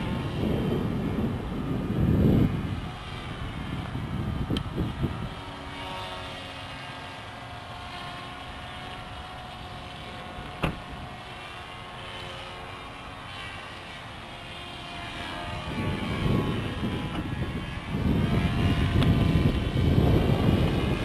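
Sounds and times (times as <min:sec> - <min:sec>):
model airplane motor whining: 0:00.0 - 0:21.0.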